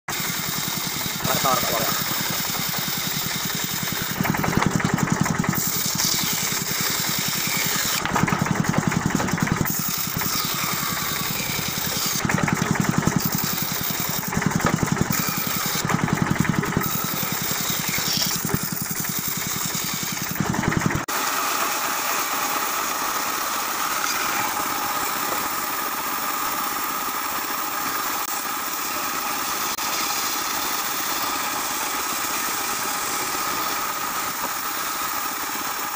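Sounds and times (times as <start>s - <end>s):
band saw cutting wood: 0.1s - 35.9s.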